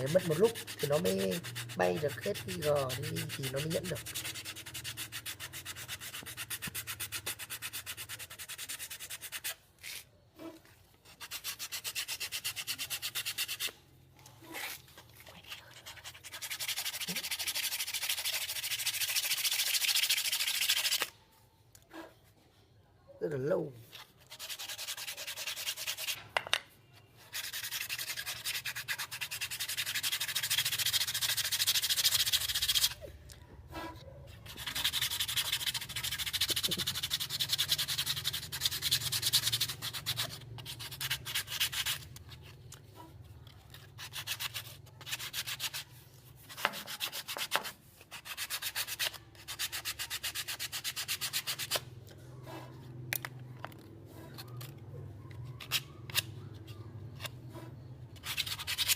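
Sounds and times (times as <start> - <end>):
sandpaper rubbing bamboo: 0.0 - 21.2, 23.8 - 26.3, 27.2 - 33.1, 33.7 - 52.8, 55.5 - 58.9.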